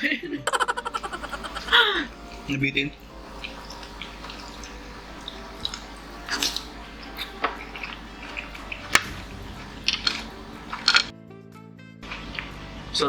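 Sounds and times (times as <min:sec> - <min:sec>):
mouth clicks: 0:00.5 - 0:11.1, 0:12.2 - 0:12.7
person chewing: 0:00.5 - 0:11.1, 0:12.1 - 0:12.8.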